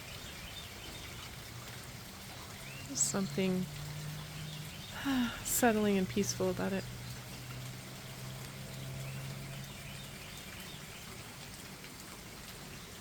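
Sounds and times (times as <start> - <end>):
steady rain patter: 0.0 - 13.0.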